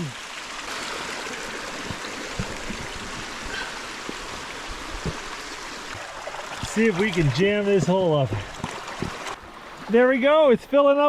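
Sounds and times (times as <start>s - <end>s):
water running: 0.0s - 10.6s.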